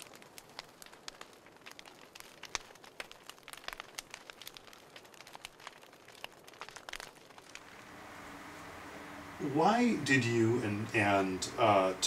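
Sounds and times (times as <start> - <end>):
faint irregular crackling: 0.0 - 12.0.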